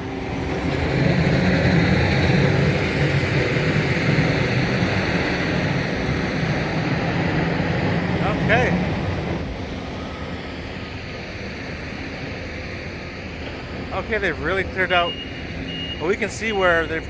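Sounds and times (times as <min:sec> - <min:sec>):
heavy engine droning: 0:00.0 - 0:17.0.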